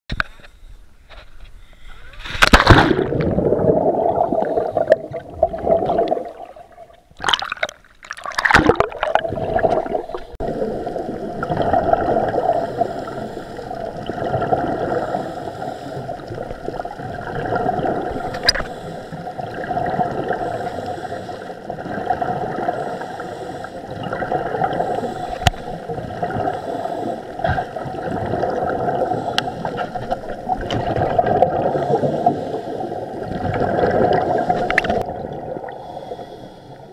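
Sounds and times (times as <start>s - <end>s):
muffled underwater gurgle: 2.0s - 36.5s
water splashing: 2.2s - 36.1s.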